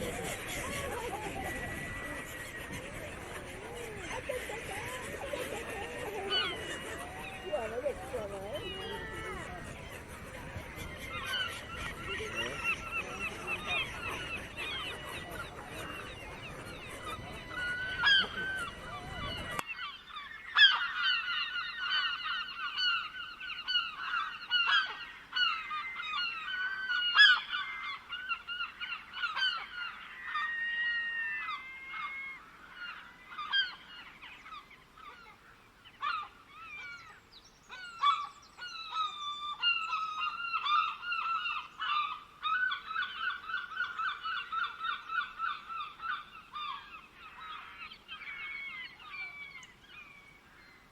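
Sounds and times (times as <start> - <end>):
flock of birds calling: 0.0 - 50.9.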